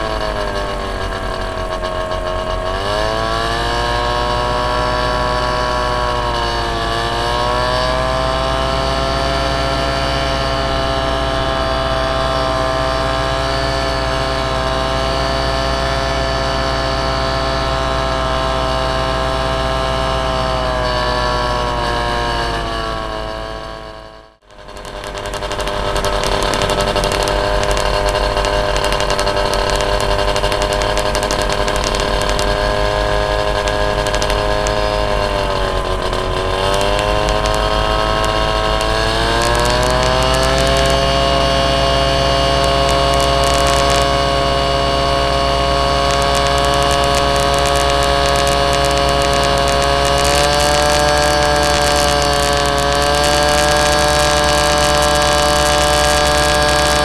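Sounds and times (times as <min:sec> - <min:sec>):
propeller engine running: 0:00.0 - 0:57.0.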